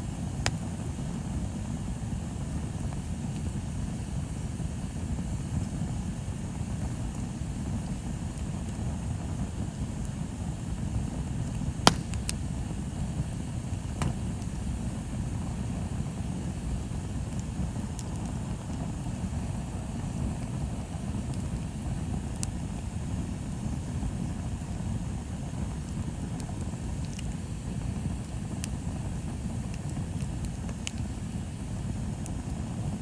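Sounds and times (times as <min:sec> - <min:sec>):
bonfire burning with crackling pops: 0:00.0 - 0:33.0.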